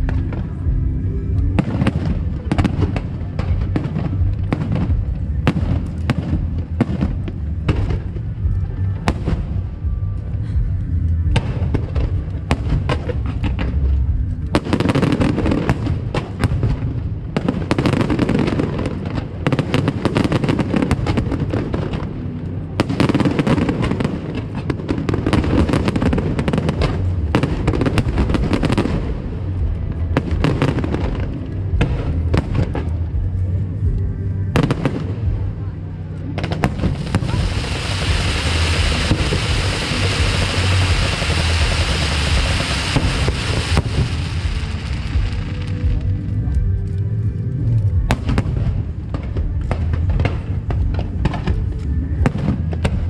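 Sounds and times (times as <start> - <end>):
fireworks booming and crackling: 0.0 - 53.0.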